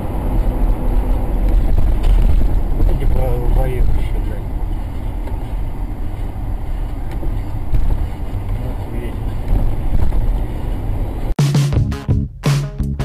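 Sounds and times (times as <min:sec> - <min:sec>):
vehicle engine and road rumble: 0:00.0 - 0:11.4.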